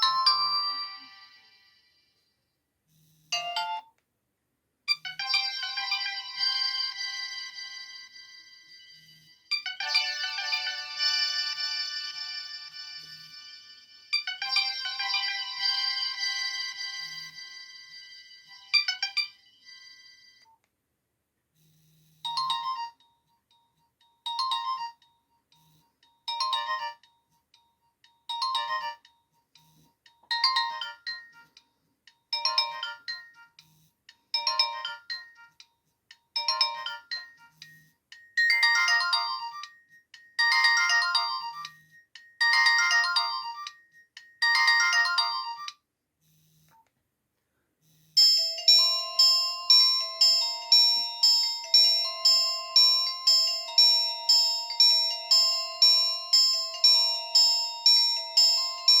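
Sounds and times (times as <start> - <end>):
phone ringtone melody: 0.0 - 2.2, 3.3 - 3.9, 4.9 - 20.5, 22.2 - 35.7, 36.3 - 45.8, 48.2 - 59.0.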